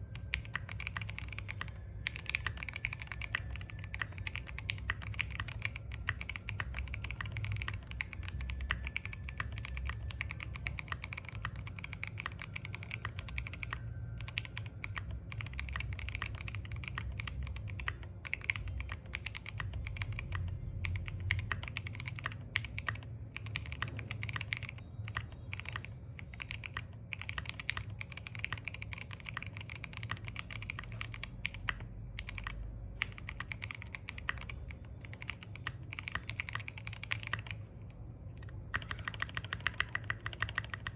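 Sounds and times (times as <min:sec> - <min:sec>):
fast typing on mechanical keyboard: 0:00.0 - 0:37.7, 0:38.4 - 0:40.9.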